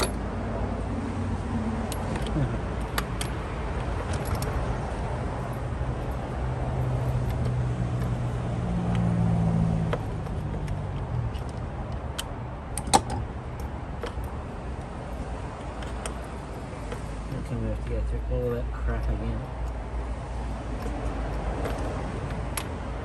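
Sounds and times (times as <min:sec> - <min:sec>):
low vehicle engine hum: 0:00.0 - 0:23.0.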